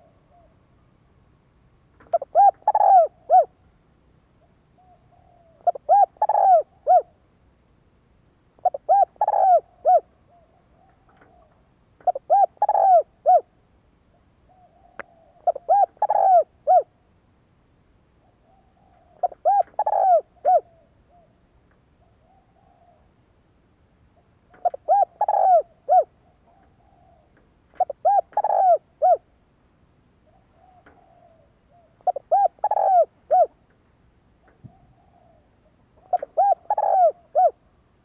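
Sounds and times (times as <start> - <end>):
dove cooing: 0.0 - 0.6, 2.0 - 3.6, 4.4 - 7.2, 8.6 - 17.0, 18.2 - 23.2, 24.2 - 29.3, 30.2 - 33.7, 34.4 - 37.8.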